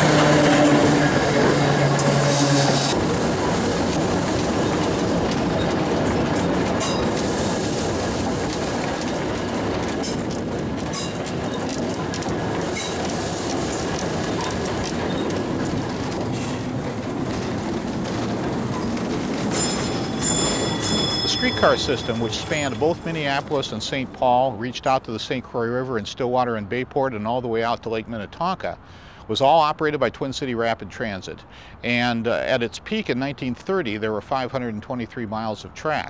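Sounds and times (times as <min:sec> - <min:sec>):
streetcar wheels rumbling on rails: 0:00.0 - 0:36.0.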